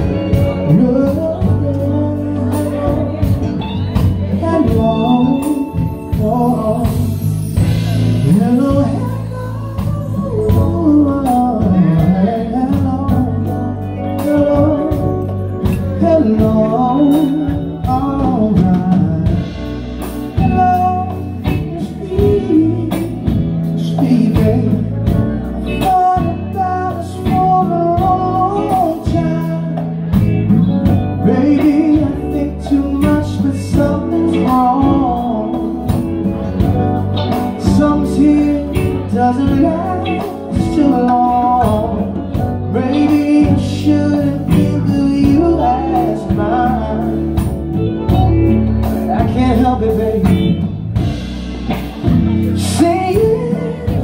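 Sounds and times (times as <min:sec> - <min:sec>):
drums keeping a steady beat: 0:00.0 - 0:54.0
electric guitar: 0:00.0 - 0:54.0
keyboard: 0:00.0 - 0:54.0
man singing: 0:00.0 - 0:54.0.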